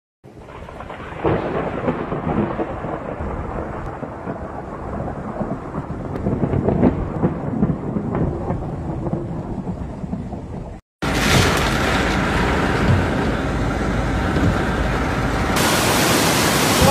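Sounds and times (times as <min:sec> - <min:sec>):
rolling thunder: 0:00.3 - 0:16.9.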